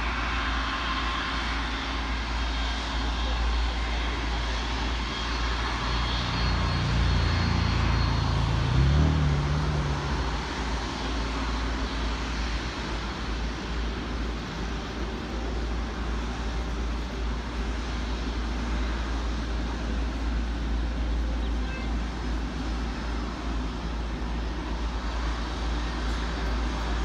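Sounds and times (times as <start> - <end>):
jet engines at taxi power: 0.0 - 27.0.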